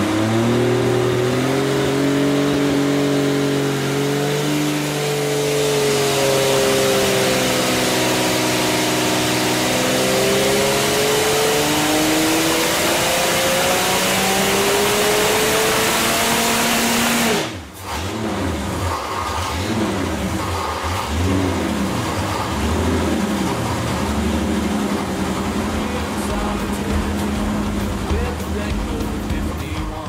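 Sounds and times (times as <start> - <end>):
tractor engine revving: 0.0 - 30.0.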